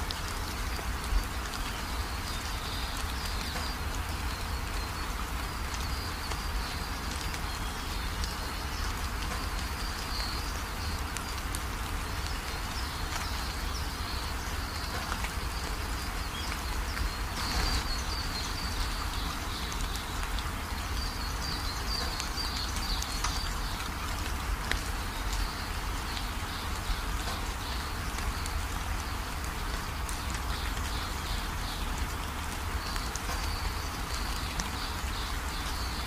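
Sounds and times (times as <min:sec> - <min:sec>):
rain pattering: 0:00.0 - 0:36.0.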